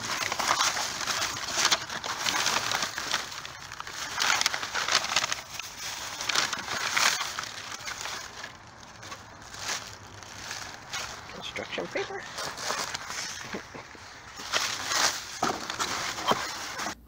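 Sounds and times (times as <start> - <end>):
plastic bags and paper rustling: 0.0 - 17.0.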